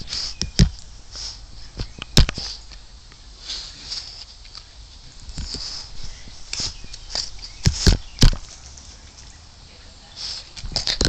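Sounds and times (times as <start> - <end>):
dog sniffing: 0.0 - 9.0, 10.0 - 11.0.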